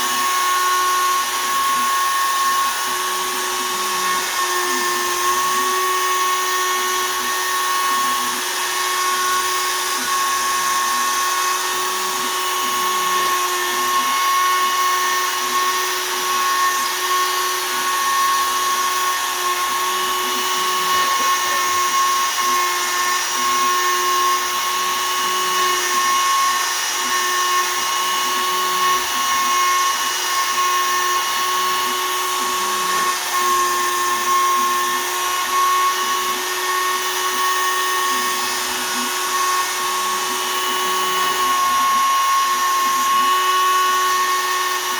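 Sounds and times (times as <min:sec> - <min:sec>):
router milling wood whine: 0:00.0 - 0:44.9.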